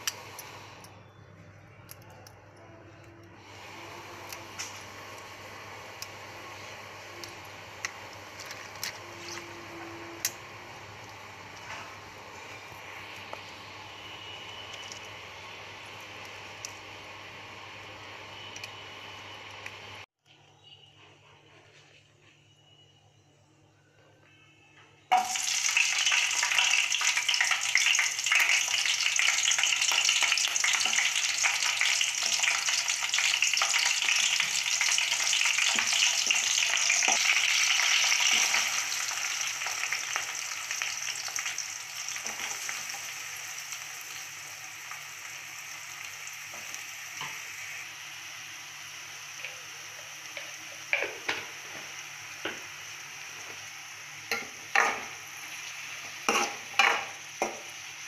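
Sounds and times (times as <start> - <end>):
chillies sizzling in hot oil: 0.0 - 1.3, 3.3 - 20.1, 25.0 - 58.0.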